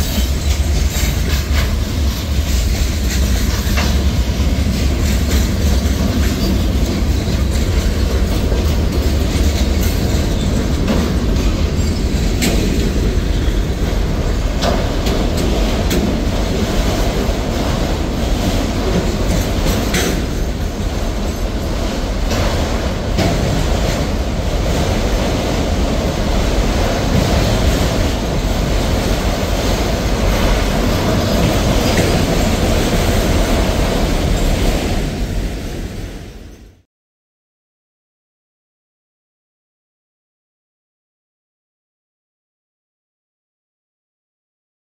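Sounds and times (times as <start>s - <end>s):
wheels clacking over rail joints: 0.0s - 36.2s
freight train rumbling past: 0.0s - 36.8s.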